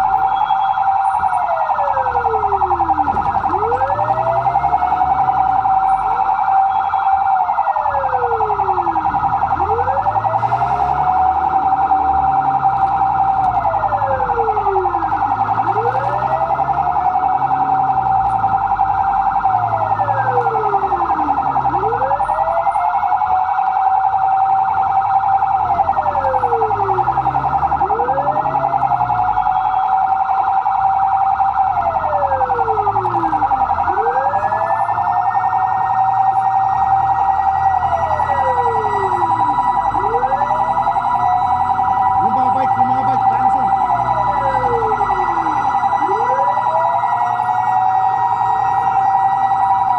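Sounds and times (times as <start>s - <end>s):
fire truck siren wailing: 0.0s - 49.9s
steady high siren tone: 0.0s - 49.9s.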